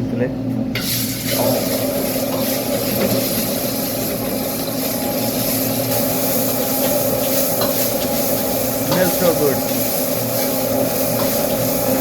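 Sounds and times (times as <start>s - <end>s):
food frying hiss: 0.8s - 12.0s.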